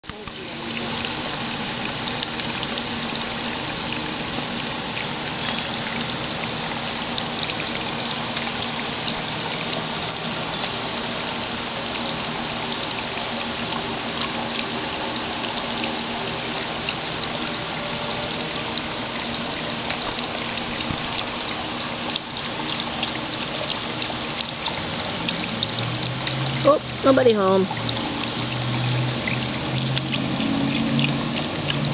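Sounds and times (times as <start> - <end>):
fountain water trickling and splashing: 0.0 - 31.9.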